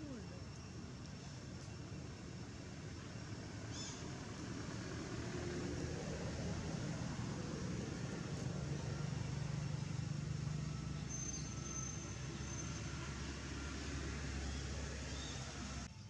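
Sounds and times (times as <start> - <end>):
distant engine rumble: 0.0 - 15.9.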